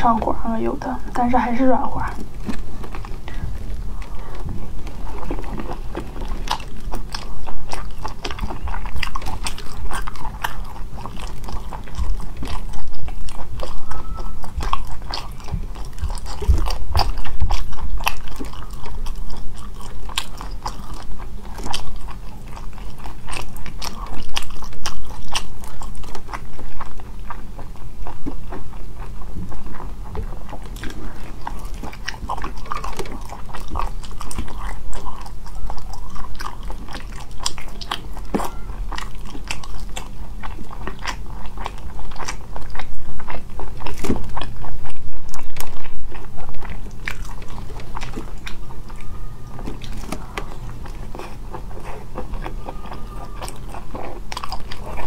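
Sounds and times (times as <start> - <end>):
chewing: 0.0 - 55.0.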